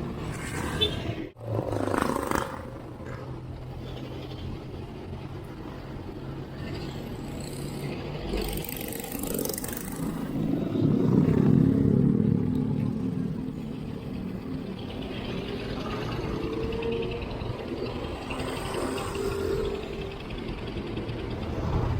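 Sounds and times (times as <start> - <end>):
road traffic rumble: 0.0 - 21.9.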